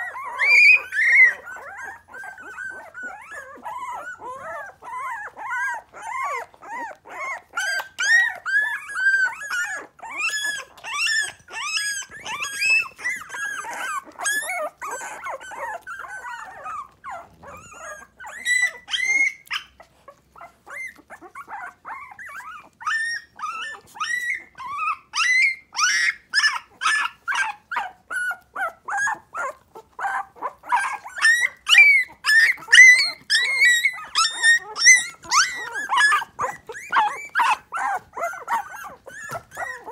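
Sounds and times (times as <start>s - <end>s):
puppies whining and yipping: 0.0s - 39.9s.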